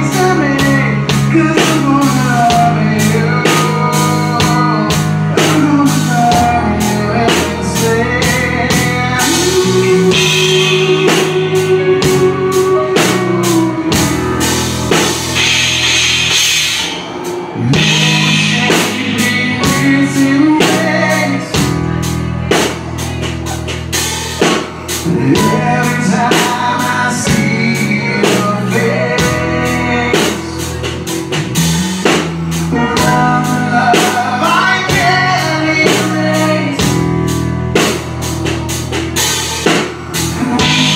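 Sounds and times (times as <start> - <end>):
man singing lead vocal: 0.0 - 16.0, 16.8 - 38.0, 39.6 - 40.9
bass guitar: 0.0 - 40.9
drum kit: 0.0 - 40.9
electric guitar: 0.0 - 40.9.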